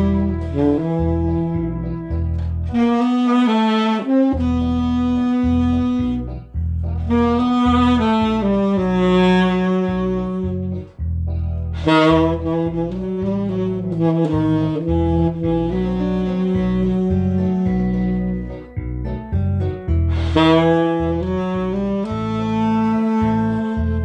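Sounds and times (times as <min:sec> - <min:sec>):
tenor saxophone ballad melody: 0:00.0 - 0:11.0, 0:11.6 - 0:24.0
backing track with bass line: 0:00.0 - 0:24.0.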